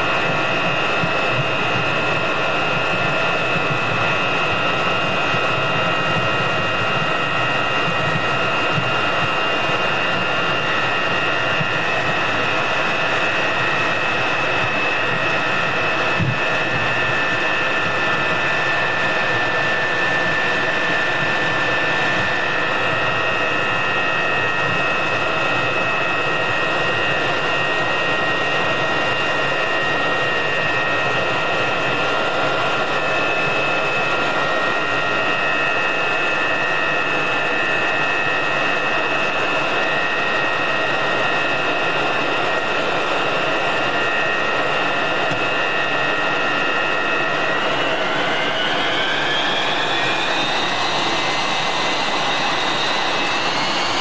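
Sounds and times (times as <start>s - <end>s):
jet engines whining at idle: 0.0s - 54.0s.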